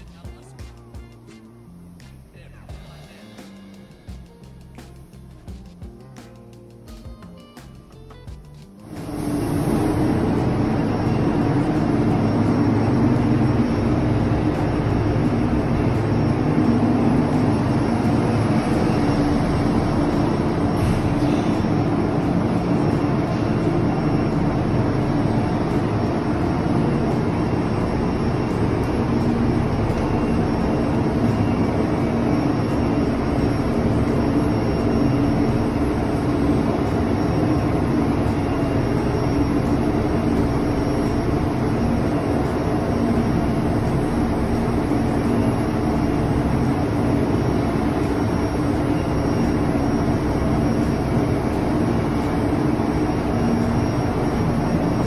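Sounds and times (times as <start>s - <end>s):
engine room machinery drone: 0.0s - 55.0s.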